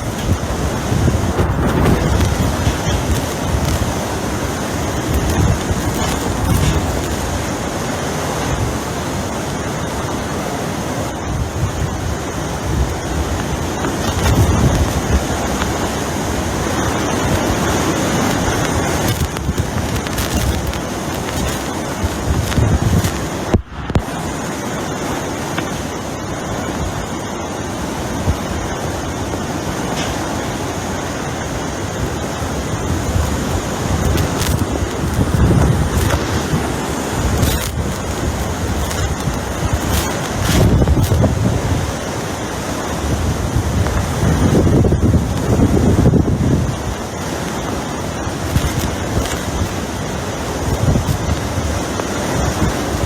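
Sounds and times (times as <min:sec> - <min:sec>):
strong wind buffeting microphone: 0:00.0 - 0:53.0.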